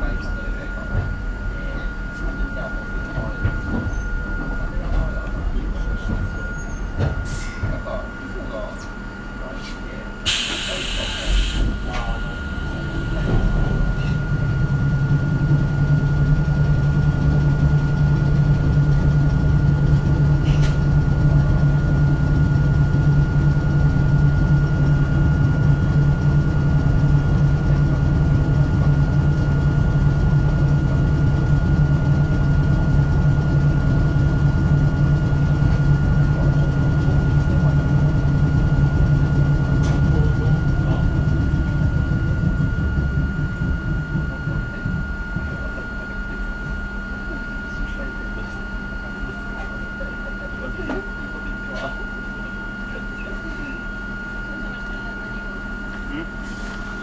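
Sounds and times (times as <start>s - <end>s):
electric train equipment humming: 0.0s - 57.0s.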